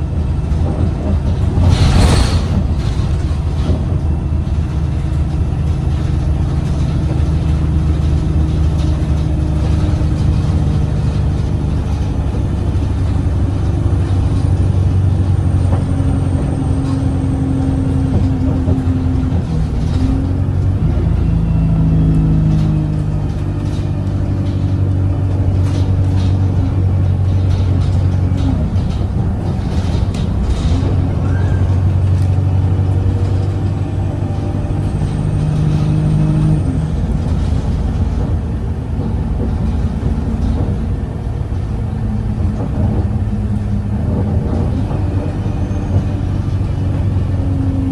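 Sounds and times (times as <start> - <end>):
bus diesel engine: 0.0 - 47.9
rattles and knocks: 0.0 - 47.9.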